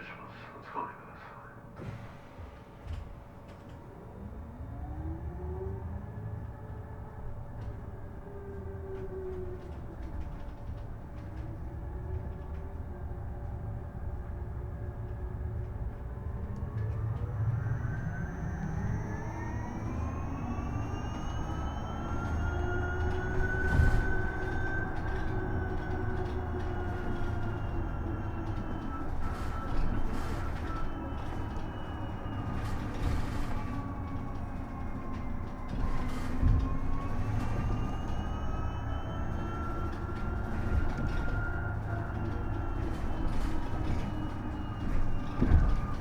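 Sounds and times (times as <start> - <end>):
electric bus drive whine: 0.0 - 46.0
road rumble: 0.0 - 46.0.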